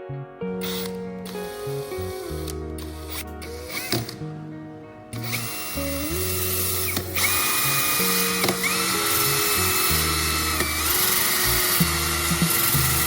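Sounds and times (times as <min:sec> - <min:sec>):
background music with bass line: 0:00.0 - 0:13.0
power tool grinding: 0:00.6 - 0:04.2, 0:05.2 - 0:13.0.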